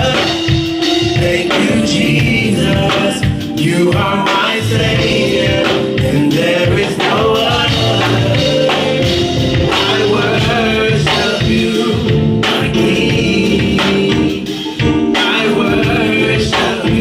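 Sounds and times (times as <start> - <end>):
band playing steady beat: 0.0 - 17.0
gospel singing: 0.0 - 17.0.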